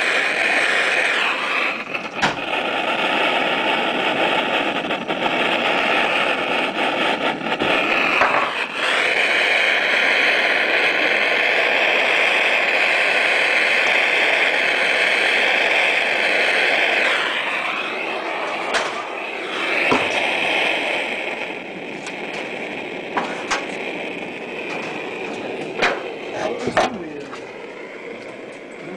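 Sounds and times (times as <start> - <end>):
gas soldering iron hissing: 0.0 - 28.9.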